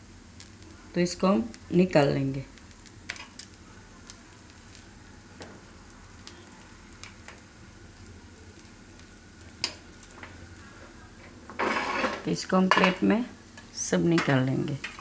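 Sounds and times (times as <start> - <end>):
oil sizzling faintly: 0.0 - 15.0.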